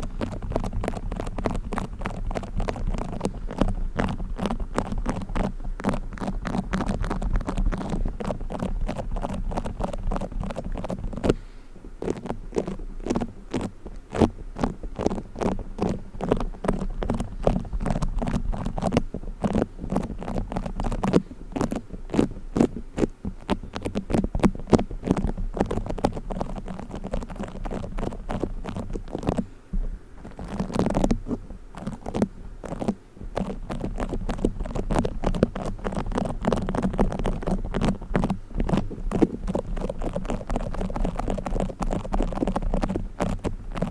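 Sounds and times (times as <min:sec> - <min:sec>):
play foam crackling and squishing: 0:00.0 - 0:29.5, 0:30.1 - 0:43.9.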